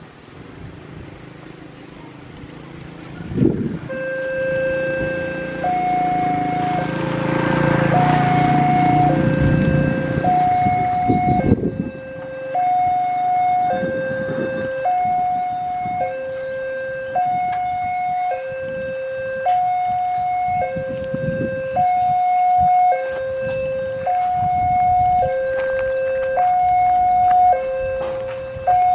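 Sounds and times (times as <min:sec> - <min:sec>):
level crossing two-tone alarm: 0:03.9 - 0:07.1, 0:07.7 - 0:28.9.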